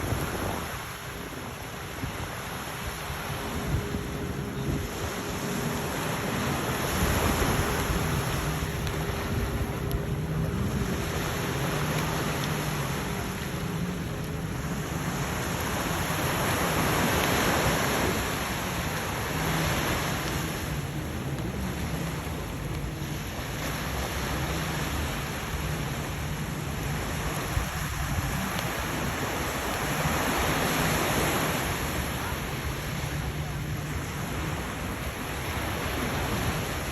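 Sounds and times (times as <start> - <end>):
surf washing onto beach: 0.0 - 36.9
wind buffeting microphone: 0.0 - 36.9.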